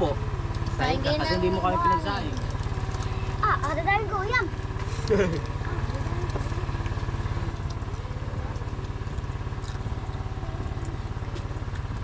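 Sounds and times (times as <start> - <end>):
generator engine chugging: 0.0 - 12.0.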